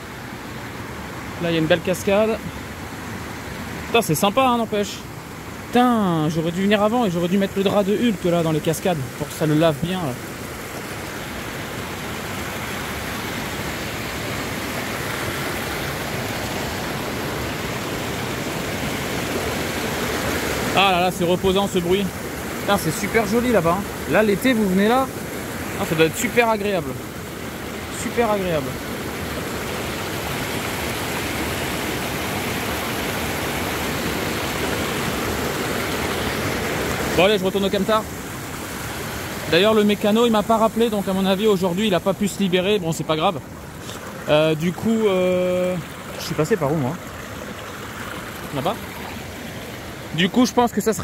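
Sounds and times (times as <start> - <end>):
water rushing over rocks: 0.0 - 51.0.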